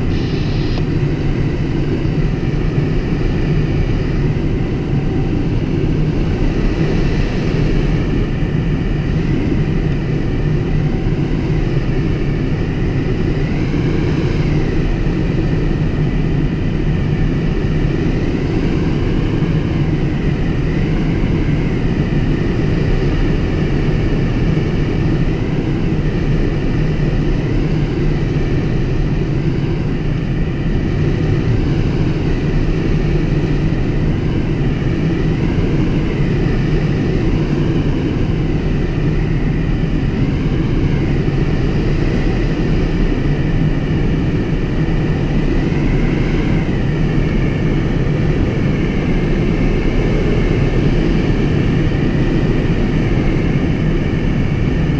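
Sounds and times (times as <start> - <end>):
rush of air around cockpit: 0.0 - 54.9.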